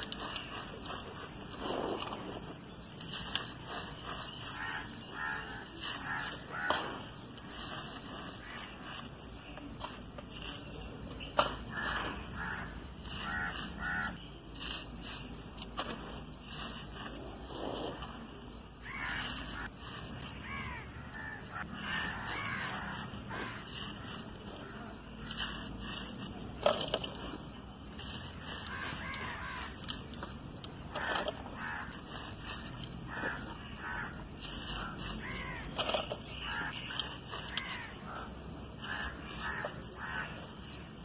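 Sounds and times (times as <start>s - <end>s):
birds calling: 0.0s - 41.0s
hand crushing charcoal: 0.0s - 41.0s.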